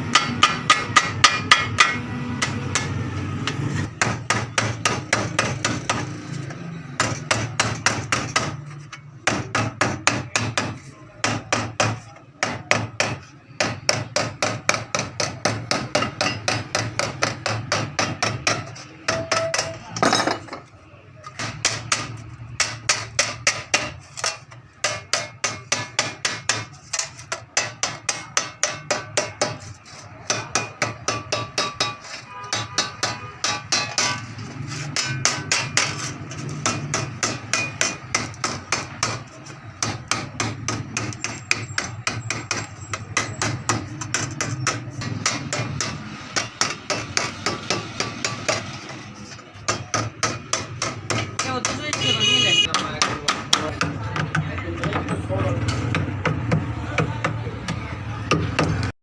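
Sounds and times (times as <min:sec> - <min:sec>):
hammer striking sheet metal: 0:00.0 - 0:20.4, 0:21.3 - 0:58.9.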